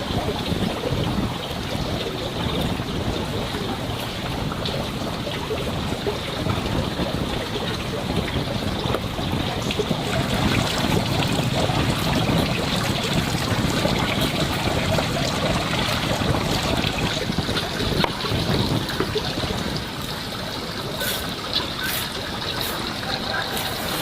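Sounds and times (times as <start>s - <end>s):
water running and splashing: 0.0s - 24.0s.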